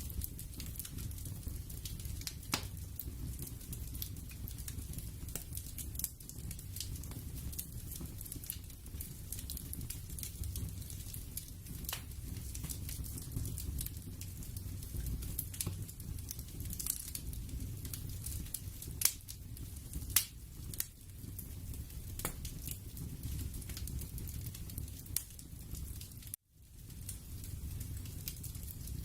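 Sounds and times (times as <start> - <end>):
sharp pops and crackles: 0.0 - 29.0.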